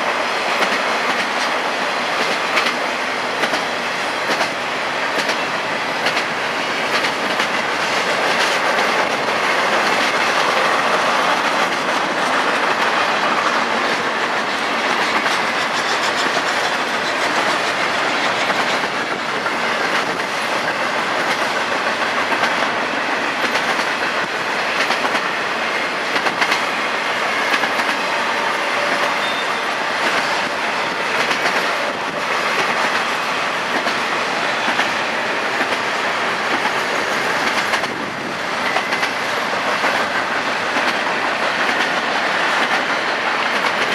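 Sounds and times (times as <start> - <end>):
freight train rumbling: 0.0 - 43.9
wheels clicking over rail joints: 0.5 - 25.3, 26.0 - 26.8, 28.8 - 43.9.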